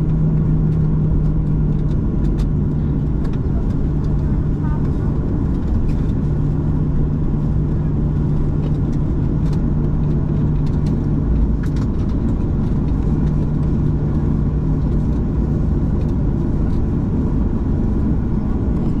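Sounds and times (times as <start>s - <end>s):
airliner rolling rumble: 0.0s - 19.0s
jet engines at taxi power: 0.0s - 19.0s
steady low hum: 0.0s - 19.0s.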